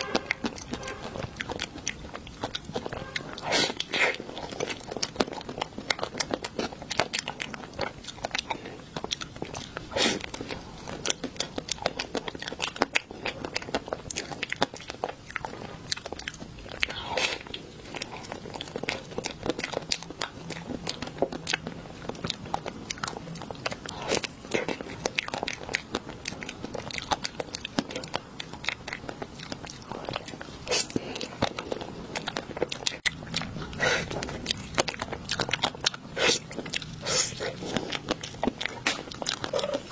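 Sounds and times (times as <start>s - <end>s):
person crunching and chewing food: 0.0s - 39.9s.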